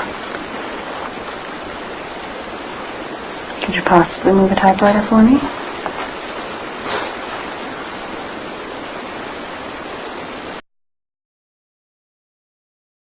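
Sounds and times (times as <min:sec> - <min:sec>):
background hiss: 0:00.0 - 0:10.6.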